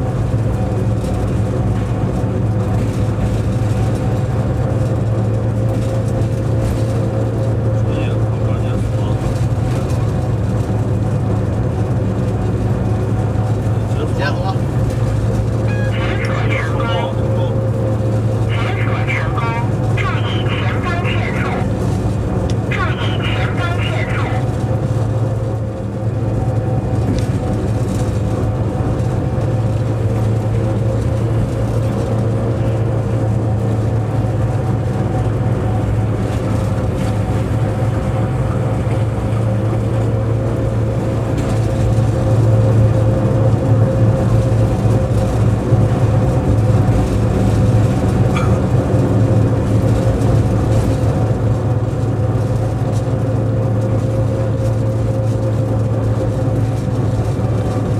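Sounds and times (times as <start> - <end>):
locomotive cab drone: 0.0 - 57.9.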